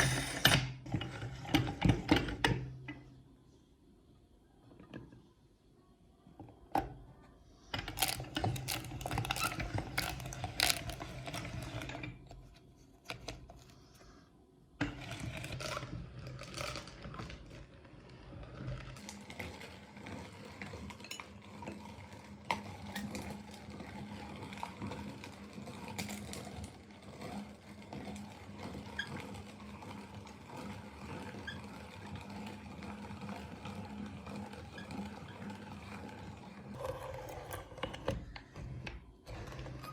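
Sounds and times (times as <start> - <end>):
meat grinder motor hum: 0.0 - 2.5, 7.8 - 12.3, 14.8 - 39.9
grinder clicking and clattering: 0.0 - 3.0, 7.8 - 12.4, 14.8 - 39.9.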